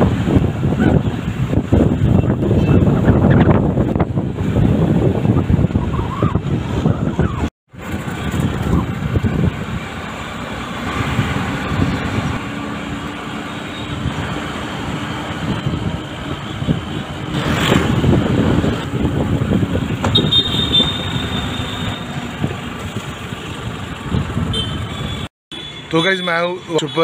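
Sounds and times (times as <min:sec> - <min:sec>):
wind buffeting microphone: 0:00.0 - 0:13.1, 0:13.9 - 0:25.2
road traffic noise: 0:00.0 - 0:27.0.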